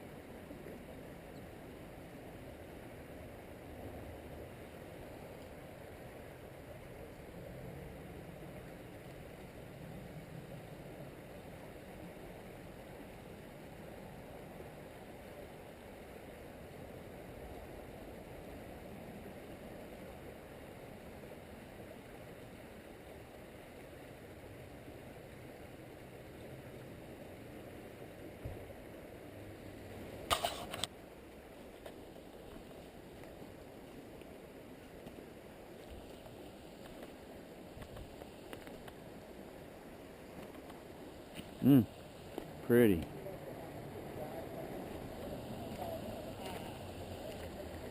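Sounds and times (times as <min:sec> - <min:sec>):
low rushing background noise: 0:00.0 - 0:47.9.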